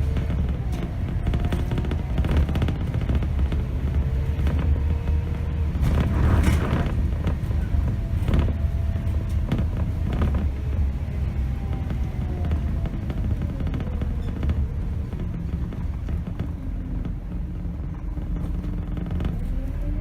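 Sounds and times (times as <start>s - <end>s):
knocks and rattles: 0.0s - 19.7s
bus diesel engine drone: 0.0s - 20.0s.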